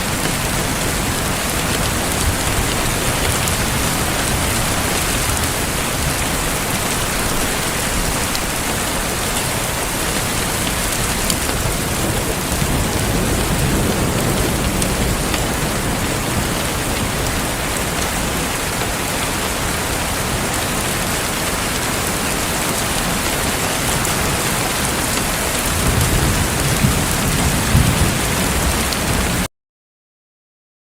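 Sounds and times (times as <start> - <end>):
heavy rain on hard surface: 0.0 - 29.5.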